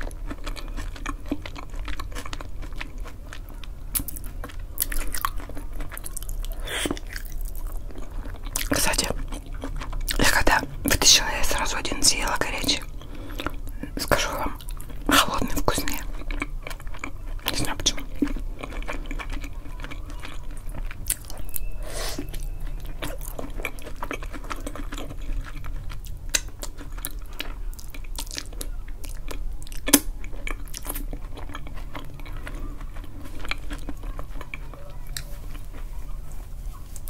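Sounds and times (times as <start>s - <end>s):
chewing with wet mouth sounds: 0.0s - 37.0s.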